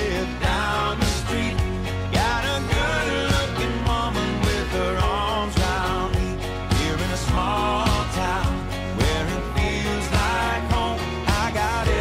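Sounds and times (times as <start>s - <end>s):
country song with guitar: 0.0s - 12.0s.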